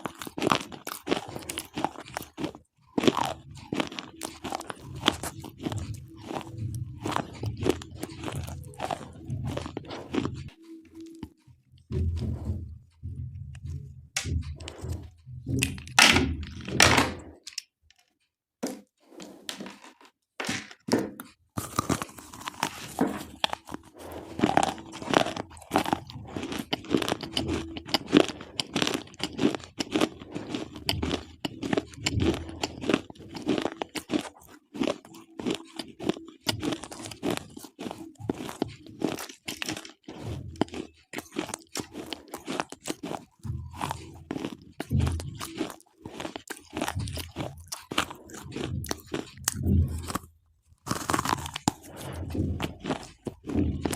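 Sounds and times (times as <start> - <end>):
slate pencils crunching in mouth: 0.0 - 12.6, 13.5 - 18.1, 21.2 - 53.9.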